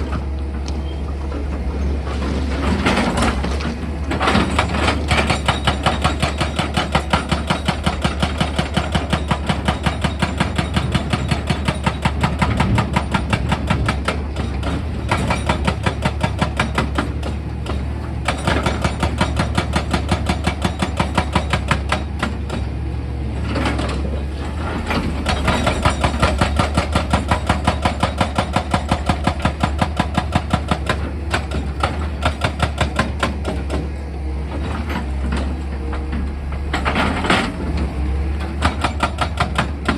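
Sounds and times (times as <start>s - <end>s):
excavator engine humming: 0.0s - 39.9s
hydraulic breaker hammering rock: 2.6s - 39.9s.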